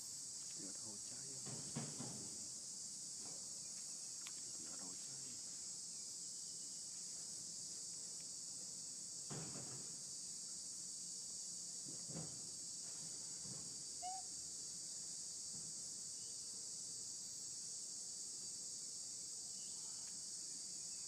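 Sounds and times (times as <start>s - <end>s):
insects chorus: 0.0s - 21.0s.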